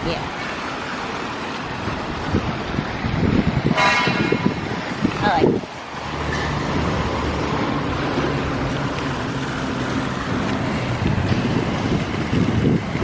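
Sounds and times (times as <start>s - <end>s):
outdoor noise: 0.0s - 13.0s.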